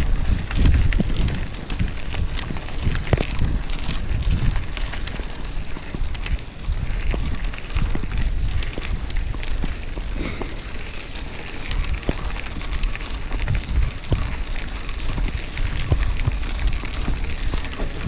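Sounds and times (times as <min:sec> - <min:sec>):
bike tyres crackling over stones: 0:00.0 - 0:18.0
wind rumbling on microphone: 0:00.0 - 0:18.0.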